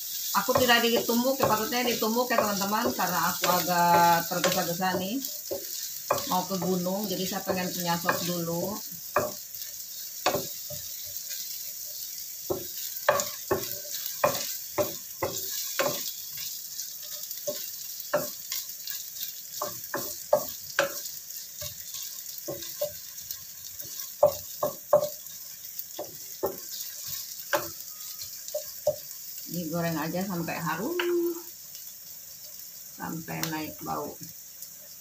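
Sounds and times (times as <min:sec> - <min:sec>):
spatula scraping pan: 0:00.0 - 0:29.3
aromatics sizzling in oil: 0:00.0 - 0:35.0.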